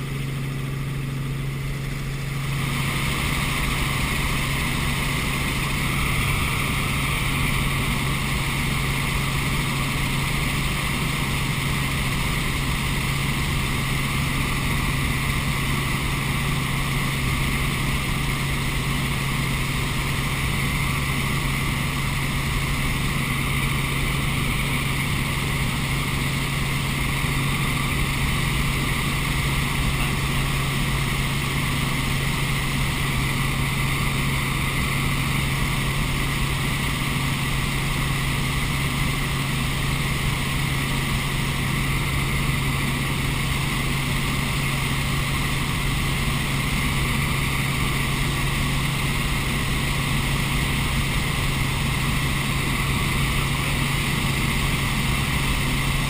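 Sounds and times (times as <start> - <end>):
helicopter engine and rotors droning: 0.0 - 56.0.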